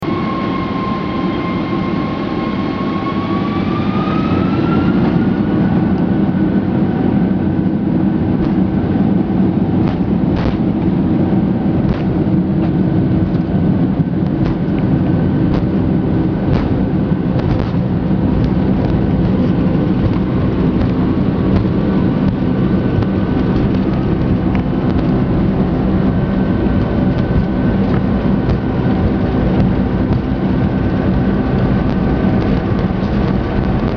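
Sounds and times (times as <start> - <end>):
jet engine rumble: 0.0 - 33.9
jet engines whining: 0.0 - 33.9.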